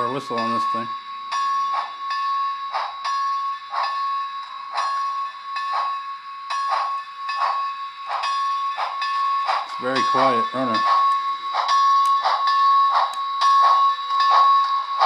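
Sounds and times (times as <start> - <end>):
model steam locomotive chuffs: 0.0 - 15.0
steady ringing tone: 0.0 - 15.0.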